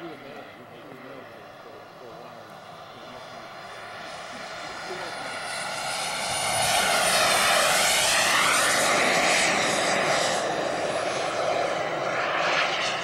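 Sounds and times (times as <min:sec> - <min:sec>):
model jet whine passing: 0:00.0 - 0:13.0.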